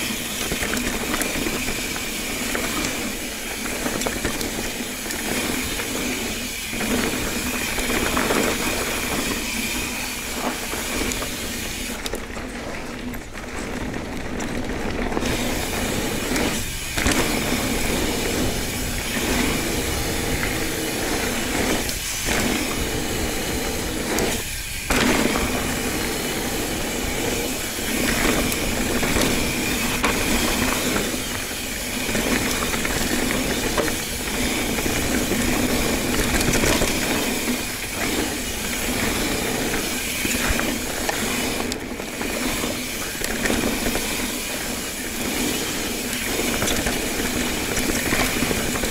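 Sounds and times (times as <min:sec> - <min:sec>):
bike tyres and air rushing: 0:00.0 - 0:48.9
bike whir and rattle: 0:00.0 - 0:48.9.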